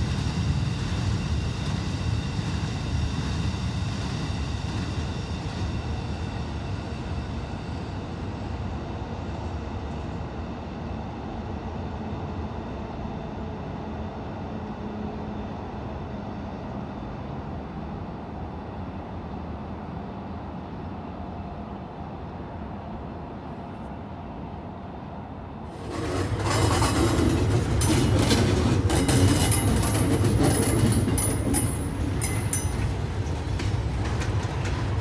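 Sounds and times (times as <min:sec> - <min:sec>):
train wheels rumbling on track: 0:00.0 - 0:35.0.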